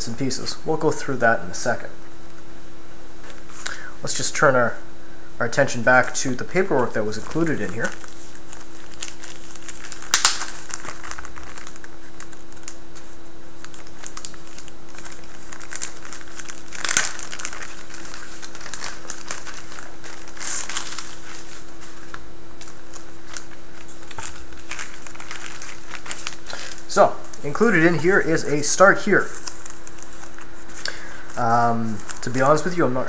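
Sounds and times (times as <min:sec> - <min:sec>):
steady low hum: 0:00.0 - 0:33.0
plastic packaging crinkling: 0:05.8 - 0:33.0.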